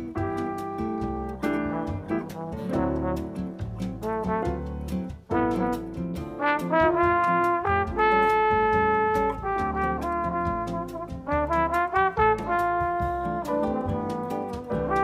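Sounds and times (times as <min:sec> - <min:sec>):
brass melody: 0:00.0 - 0:15.0
steady drum beat: 0:00.0 - 0:15.0.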